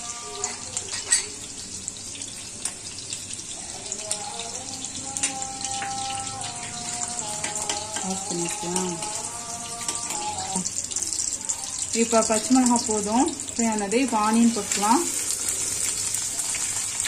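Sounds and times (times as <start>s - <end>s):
chillies sizzling in hot oil: 0.0s - 17.0s.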